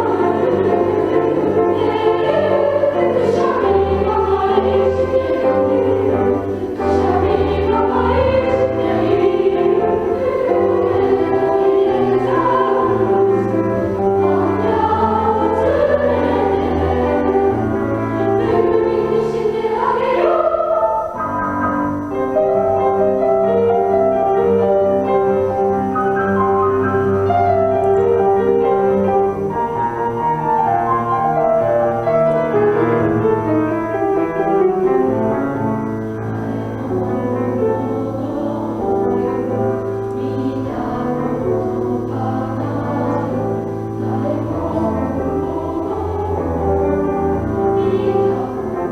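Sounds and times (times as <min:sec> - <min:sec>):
children's choir singing: 0:00.0 - 0:48.9
piano accompaniment: 0:00.0 - 0:48.9.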